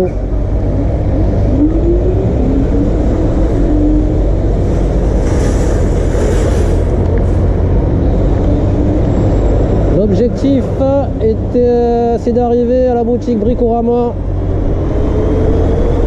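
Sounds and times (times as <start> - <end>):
road rumble: 0.0 - 16.0.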